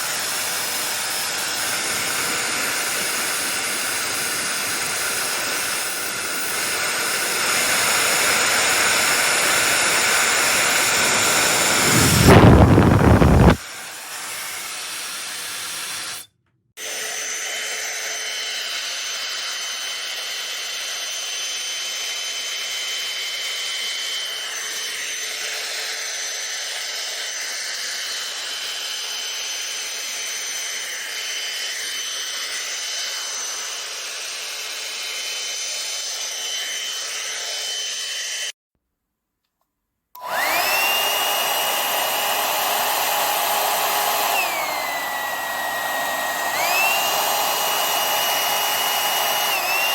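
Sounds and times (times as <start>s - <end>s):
hair dryer running: 0.0s - 38.6s, 40.2s - 49.9s.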